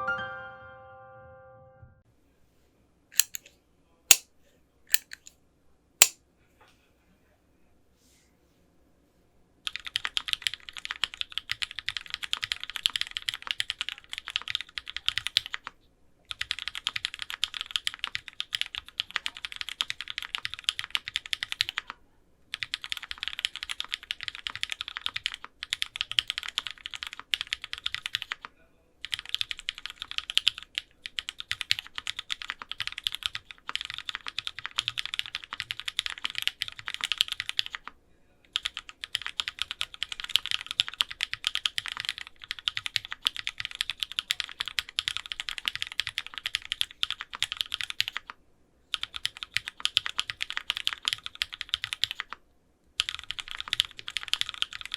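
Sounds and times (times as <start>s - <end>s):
fast mechanical keyboard typing: 3.2s - 3.4s, 9.6s - 52.4s, 53.0s - 54.9s.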